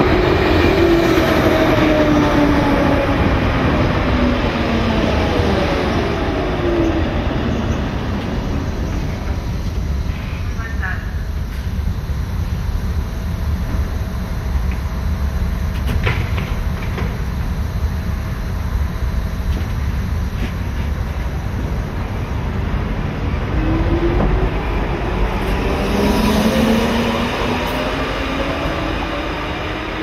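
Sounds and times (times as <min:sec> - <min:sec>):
train rumbling: 0:00.0 - 0:30.0.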